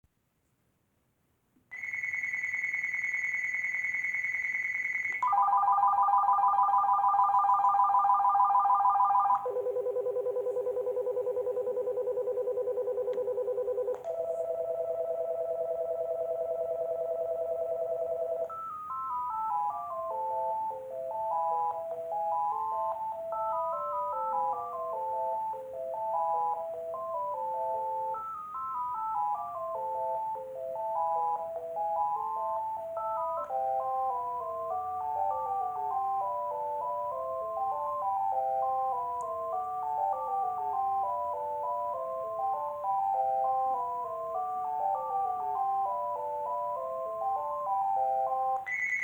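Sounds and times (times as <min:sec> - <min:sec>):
phone ringtone melody: 0:01.7 - 0:49.0
phone trilling ring: 0:01.7 - 0:49.0.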